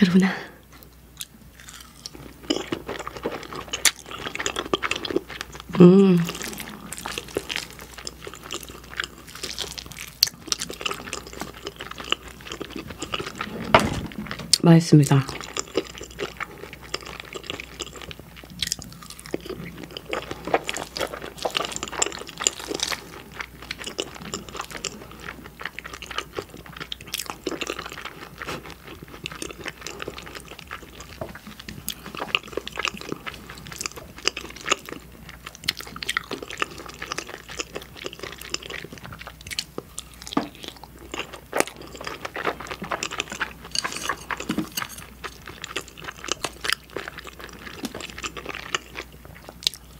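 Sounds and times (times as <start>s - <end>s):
person chewing food: 0.8s - 49.9s.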